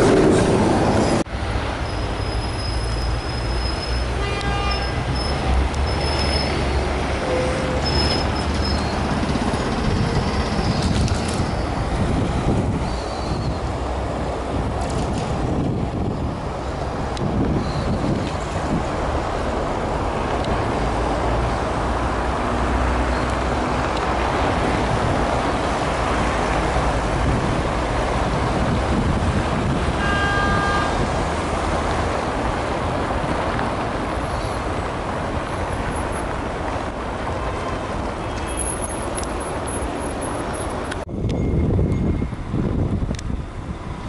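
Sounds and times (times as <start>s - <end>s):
city road traffic: 0.0s - 44.0s.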